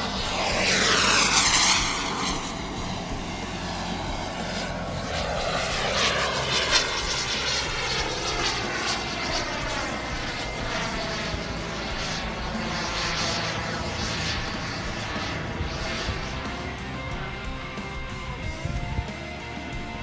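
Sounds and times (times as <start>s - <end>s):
model jet turbine roar and whine: 0.0s - 20.0s.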